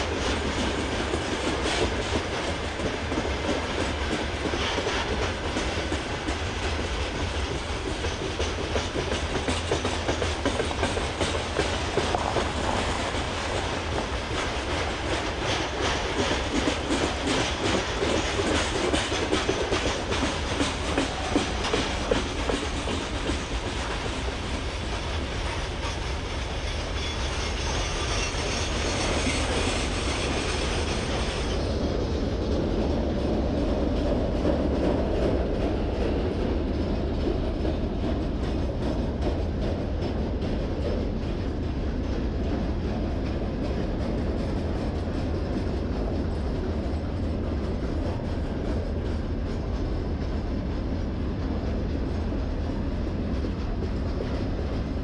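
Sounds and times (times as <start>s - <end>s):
train wheels rumbling on rail: 0.0s - 55.0s
wheels clicking over rail joints: 0.0s - 55.0s.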